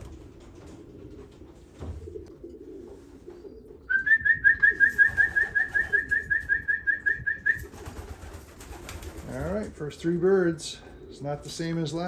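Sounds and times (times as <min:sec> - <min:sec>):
pigeons cooing: 0:00.0 - 0:09.8, 0:10.4 - 0:12.0.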